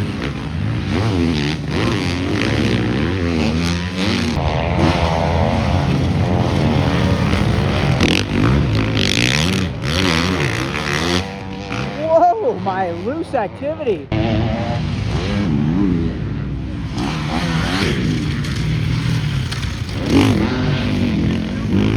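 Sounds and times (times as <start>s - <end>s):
motocross bikes revving past: 0.0s - 21.9s.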